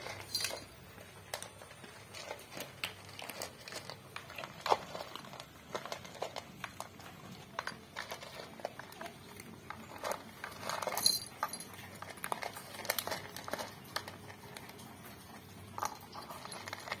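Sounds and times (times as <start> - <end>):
cats crunching dry kibble: 0.0 - 17.0.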